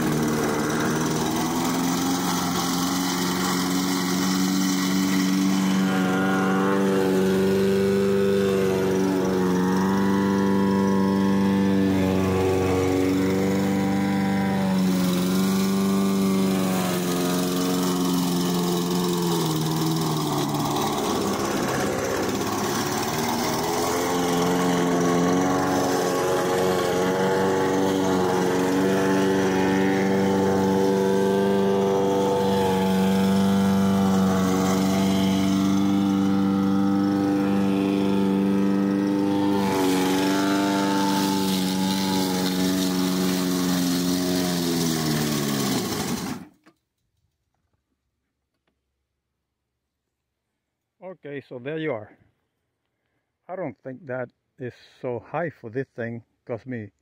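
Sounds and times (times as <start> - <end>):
lawn mower engine running unevenly: 0.0 - 46.7.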